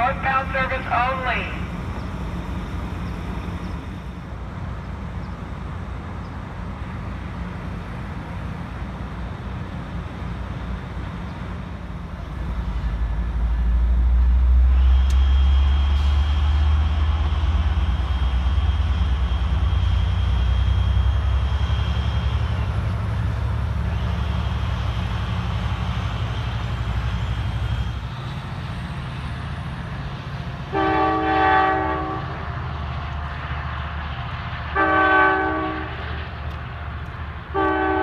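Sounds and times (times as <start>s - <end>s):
diesel locomotive rumbling: 0.0s - 38.0s.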